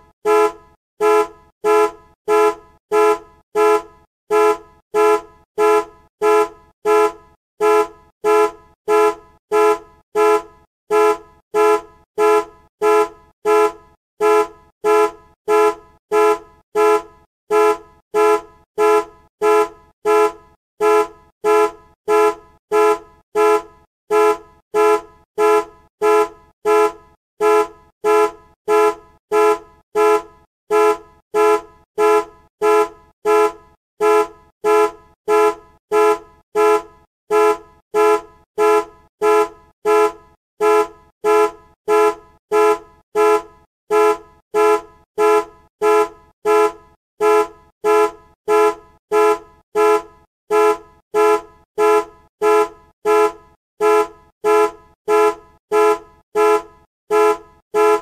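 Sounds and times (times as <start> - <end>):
car horn beeping: 0.2 - 58.0.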